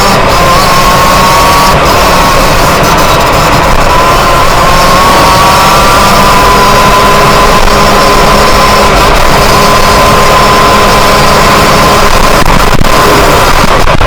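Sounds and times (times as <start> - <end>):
two-stroke motorcycle engine running: 0.0 - 14.0.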